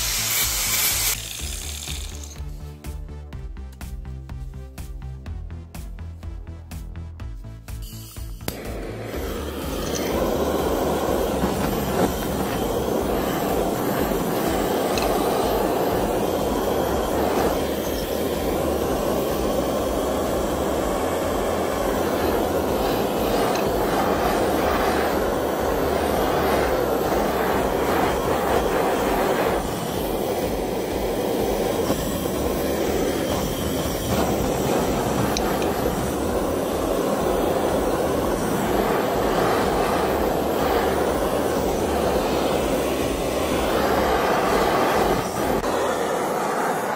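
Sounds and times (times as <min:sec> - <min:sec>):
gas torch flame rushing: 0:00.0 - 0:02.8, 0:08.2 - 0:46.9.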